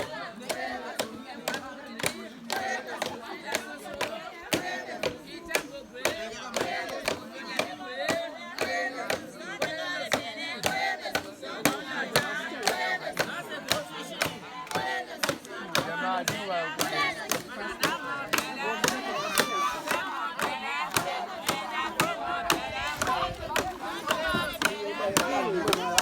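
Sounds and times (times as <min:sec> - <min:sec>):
steady claps: 0:00.0 - 0:26.0
women singing together: 0:00.0 - 0:26.0.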